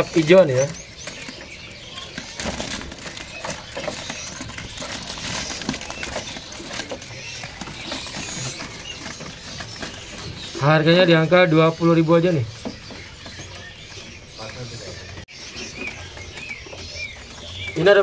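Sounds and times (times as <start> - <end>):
birds clicking and rustling in cages: 0.0 - 18.0
songbirds chirping: 0.0 - 18.0.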